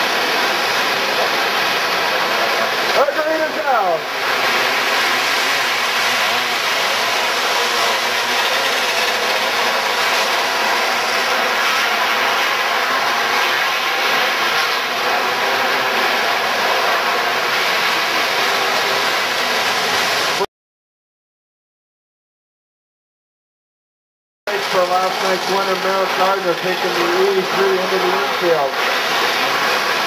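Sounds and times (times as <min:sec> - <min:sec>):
kart engines racing: 0:00.0 - 0:20.5, 0:24.5 - 0:30.0.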